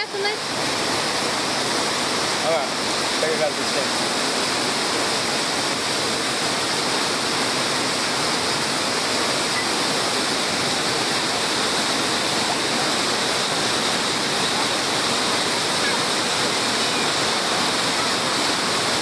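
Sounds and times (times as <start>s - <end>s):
waterfall roar: 0.0s - 19.0s.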